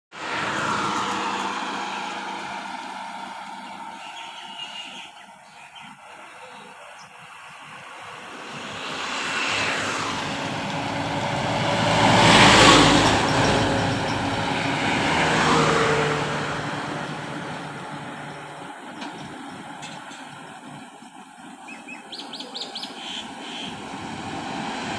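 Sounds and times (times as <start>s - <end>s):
truck passing: 0.1s - 24.9s.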